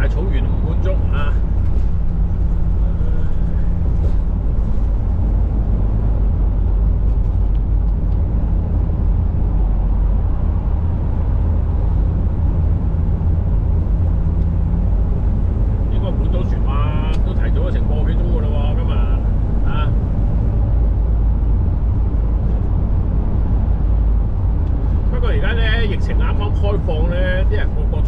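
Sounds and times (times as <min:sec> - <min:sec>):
vehicle engine and tyres rumbling: 0:00.0 - 0:28.0.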